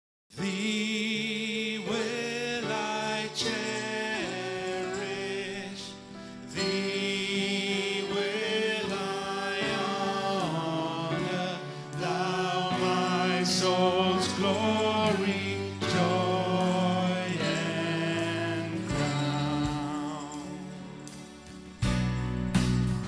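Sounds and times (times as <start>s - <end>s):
voices singing slow church song: 0.3s - 22.2s.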